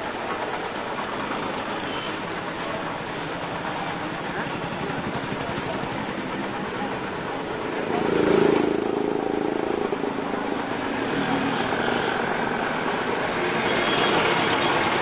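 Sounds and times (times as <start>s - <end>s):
street traffic din: 0.0s - 15.0s
vehicle engine running: 0.0s - 15.0s.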